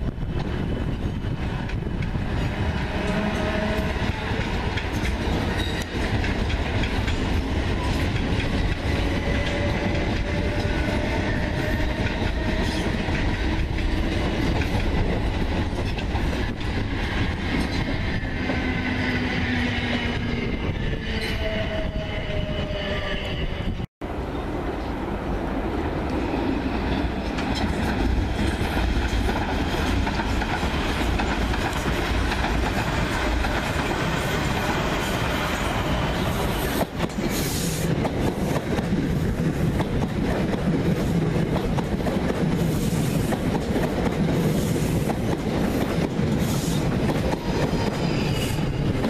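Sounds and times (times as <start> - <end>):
train wheels clacking on rails: 0.0 - 21.3, 26.4 - 49.0.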